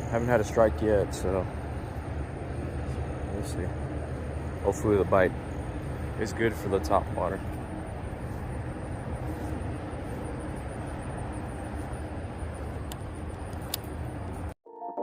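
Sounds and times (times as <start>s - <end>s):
low outdoor rumble: 0.0s - 14.6s.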